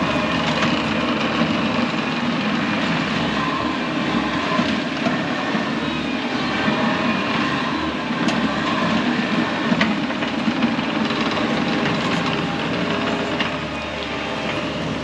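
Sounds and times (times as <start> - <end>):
diesel loader engine running: 0.0 - 15.0.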